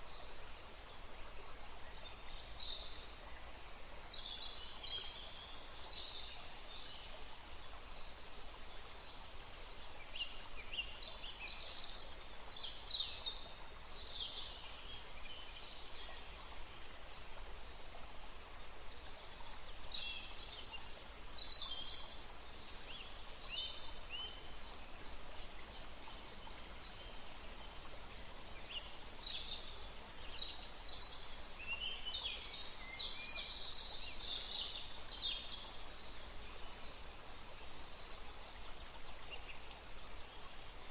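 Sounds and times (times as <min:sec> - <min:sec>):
steady background hiss: 0:00.0 - 0:40.9.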